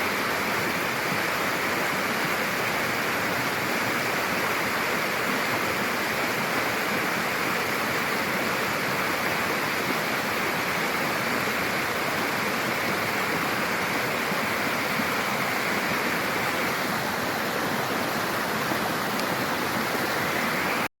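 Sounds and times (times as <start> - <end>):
water rushing: 0.0 - 20.9.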